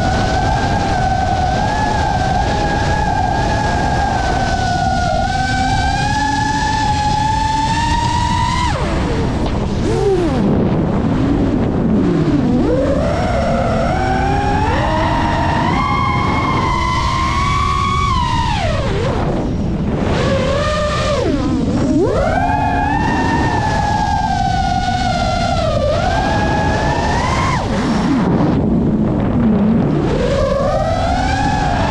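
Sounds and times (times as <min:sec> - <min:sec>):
quadcopter motors whining: 0:00.0 - 0:31.9
rush of wind: 0:00.0 - 0:31.9.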